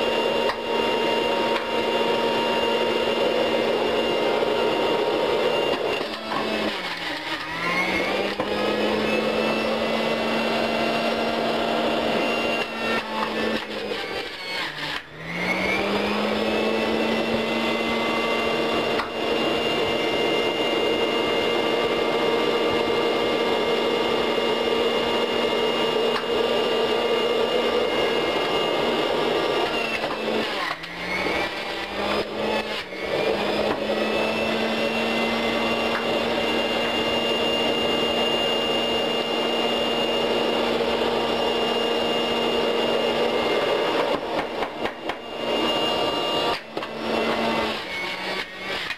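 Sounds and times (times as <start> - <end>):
juicer motor whine: 0.0 - 48.9.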